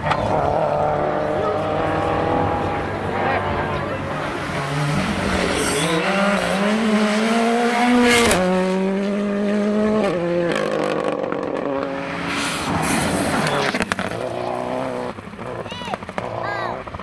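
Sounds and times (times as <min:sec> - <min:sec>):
rally car engine at lower revs: 0:00.0 - 0:17.0
rally car engine revving: 0:00.0 - 0:17.0.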